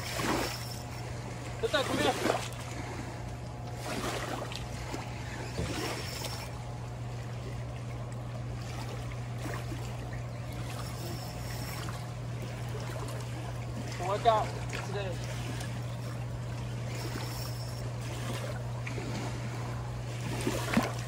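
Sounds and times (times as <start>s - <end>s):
low hum: 0.0s - 21.0s
running water: 0.0s - 21.0s.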